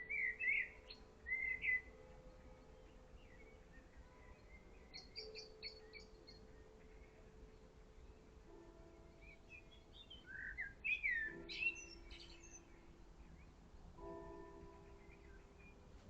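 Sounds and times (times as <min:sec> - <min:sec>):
faint steady tones: 0:00.0 - 0:16.0
songbird singing: 0:00.0 - 0:16.0.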